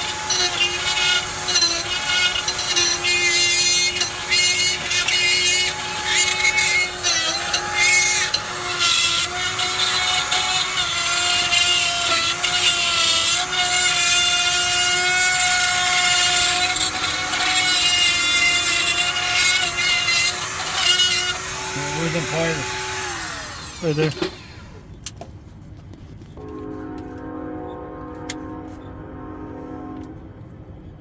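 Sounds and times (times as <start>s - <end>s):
electric power tool running: 0.0s - 24.8s.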